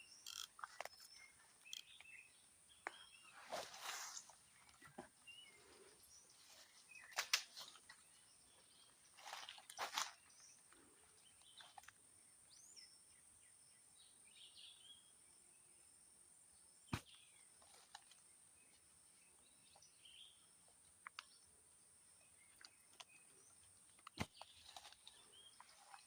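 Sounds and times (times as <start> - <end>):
faint birds chirping: 0.0 - 26.0.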